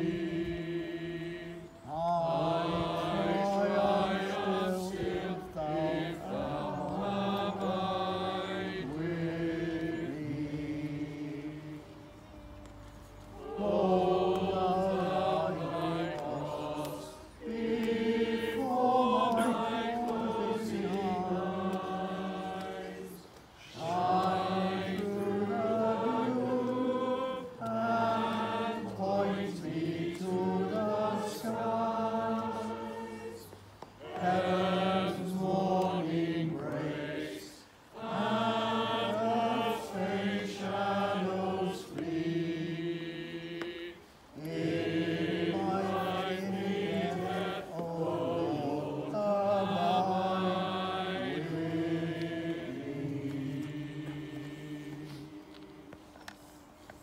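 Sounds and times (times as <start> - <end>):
church choir singing: 0.0 - 57.0.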